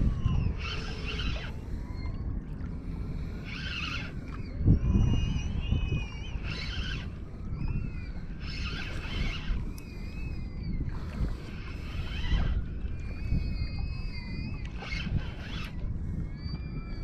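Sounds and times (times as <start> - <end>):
spinning reel gears whining: 0.0 - 2.0, 2.9 - 17.0
wind rumble on microphone: 0.0 - 17.0.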